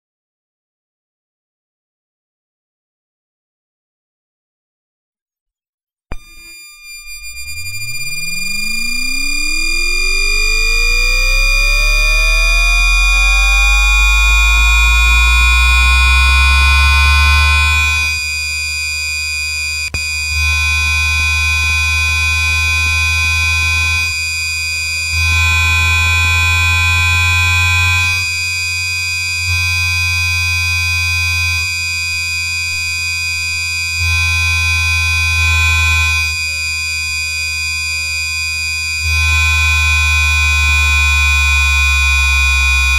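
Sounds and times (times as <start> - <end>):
electric train inverter whine: 6.9 - 42.9.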